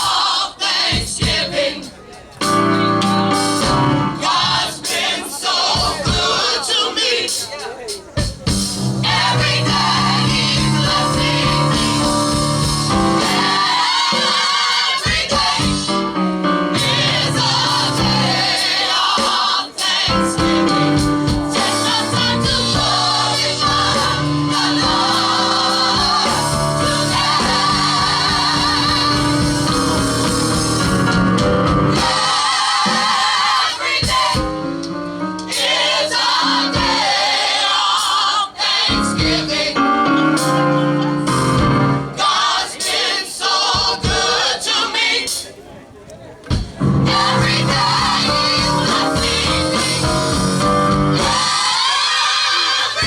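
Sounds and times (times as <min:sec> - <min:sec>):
choir singing in harmony: 0:00.0 - 0:07.7, 0:08.4 - 0:45.7, 0:46.8 - 0:53.0
instrumental backing with steady beat: 0:00.0 - 0:44.5, 0:46.4 - 0:52.5.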